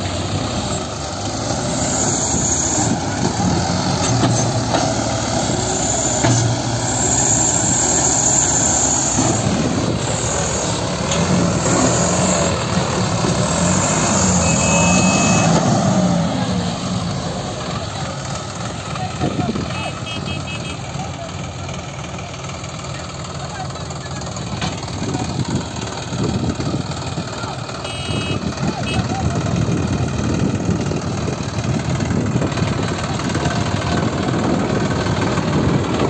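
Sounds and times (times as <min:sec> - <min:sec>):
diesel engines straining: 0:00.0 - 0:36.0.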